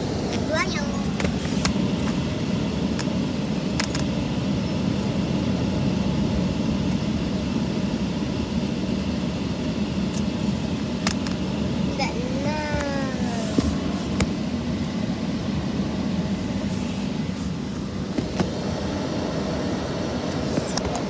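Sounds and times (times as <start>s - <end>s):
car wash machinery rumble: 0.0s - 21.0s.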